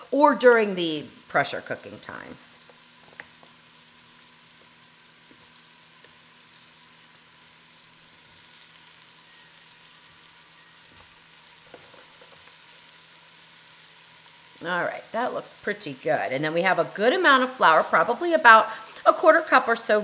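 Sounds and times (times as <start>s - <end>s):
meat sizzling in oil: 0.0s - 20.0s.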